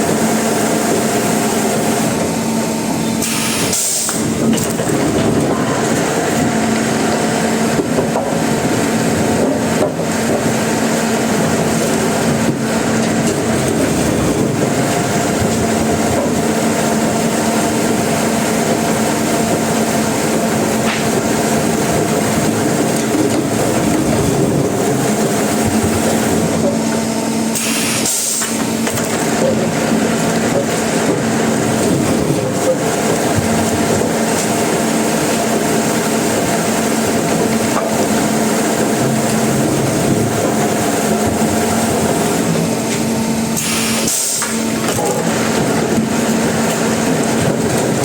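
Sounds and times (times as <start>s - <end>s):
sawmill machinery hum: 0.0s - 48.0s
mechanical clatter: 3.1s - 48.0s.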